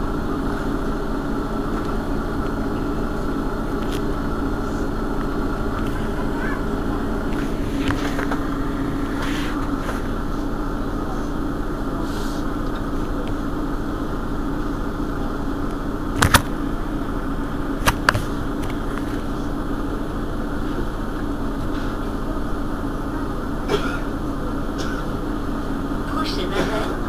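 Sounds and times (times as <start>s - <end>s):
bus engine idling: 0.0s - 27.0s.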